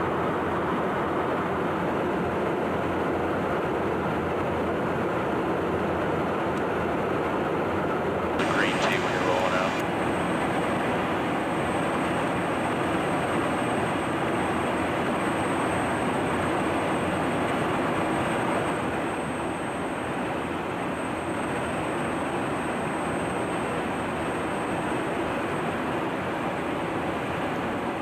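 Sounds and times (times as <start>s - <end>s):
jet engines running with whine: 0.0s - 28.0s.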